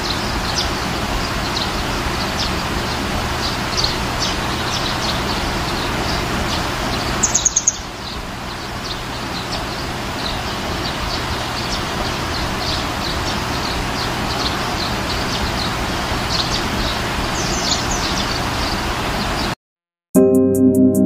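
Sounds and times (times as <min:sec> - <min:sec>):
birds chirping: 0:00.0 - 0:19.6.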